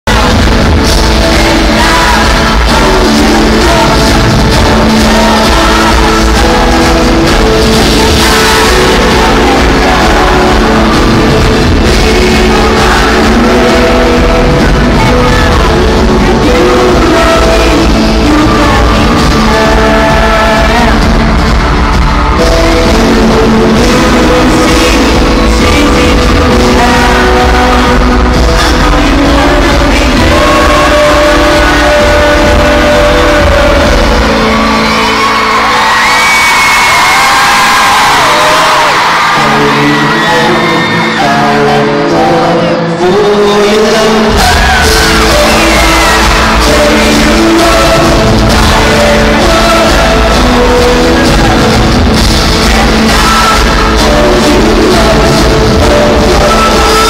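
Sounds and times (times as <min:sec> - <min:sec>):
crowd shouting: 0:00.0 - 0:57.0
live pop band and singers: 0:00.0 - 0:57.0.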